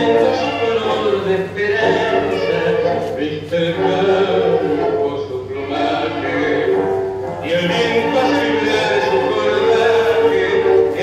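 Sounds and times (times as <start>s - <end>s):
man singing: 0.0s - 11.0s
tango orchestra music: 0.0s - 11.0s.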